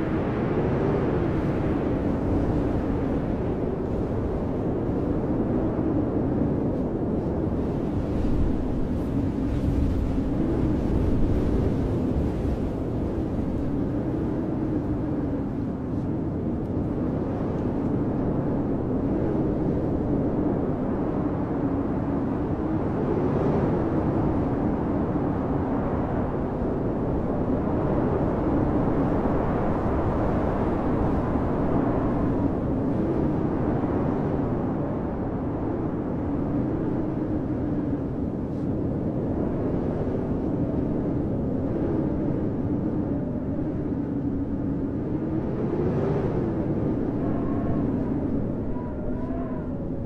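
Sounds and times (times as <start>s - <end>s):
blizzard wind rushing and howling: 0.0s - 50.0s.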